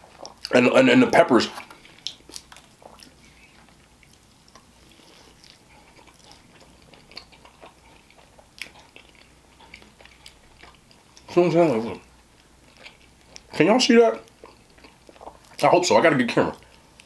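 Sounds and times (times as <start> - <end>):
faint close-up chewing: 0.0 - 17.0.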